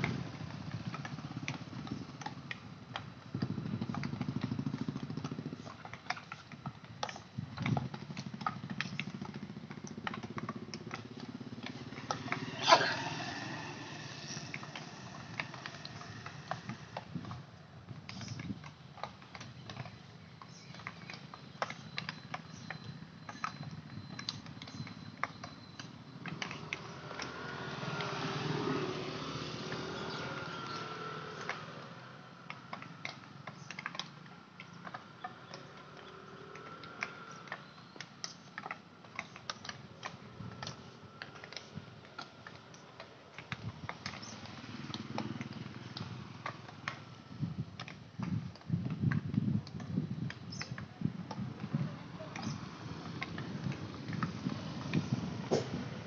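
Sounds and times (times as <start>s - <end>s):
hockey sticks clacking balls: 0.0s - 56.0s.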